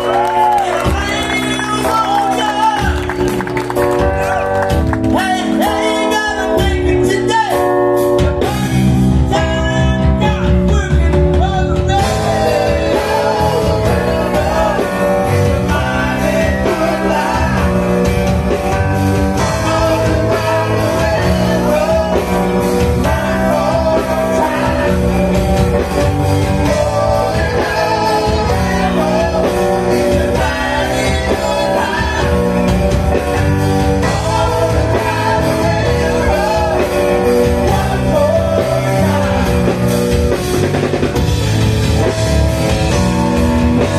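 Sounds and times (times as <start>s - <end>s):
man singing lead: 0.0s - 3.4s, 4.0s - 41.0s
bass guitar: 0.0s - 43.9s
drums: 0.0s - 43.9s
keyboards: 0.0s - 43.9s.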